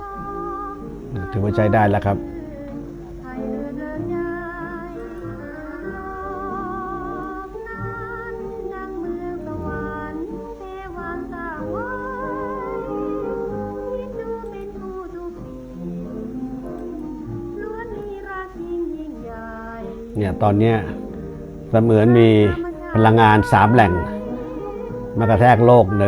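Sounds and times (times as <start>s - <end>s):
instrumental accompaniment: 0.0s - 26.0s
woman singing with vibrato: 0.0s - 26.0s.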